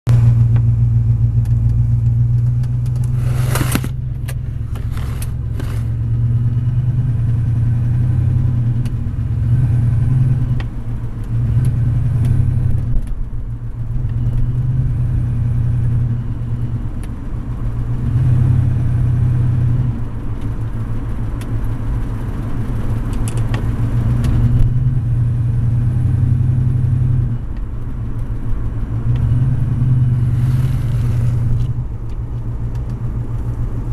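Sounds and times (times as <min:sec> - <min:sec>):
vehicle engine rumbling: 0:00.1 - 0:33.9.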